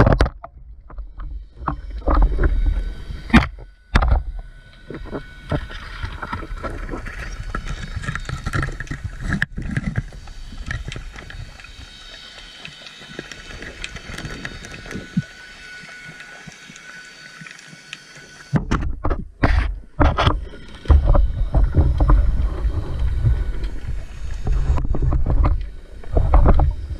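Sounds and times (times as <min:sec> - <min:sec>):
underwater noise: 0:00.0 - 0:26.9.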